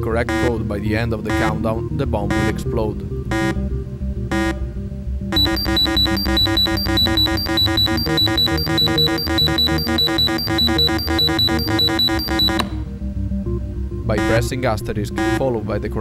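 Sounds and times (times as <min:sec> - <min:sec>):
buzzer countdown beep: 0:00.0 - 0:16.0
rapid electronic beeping alarm: 0:00.0 - 0:16.0.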